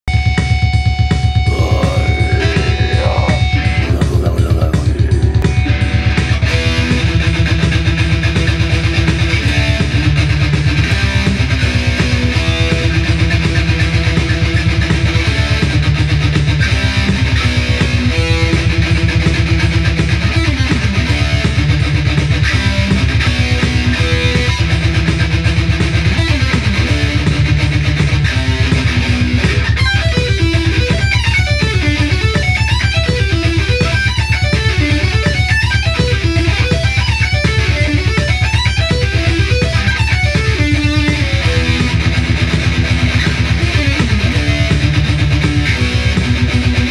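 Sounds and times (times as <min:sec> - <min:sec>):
heavy metal electric guitar: 0:00.1 - 0:46.9.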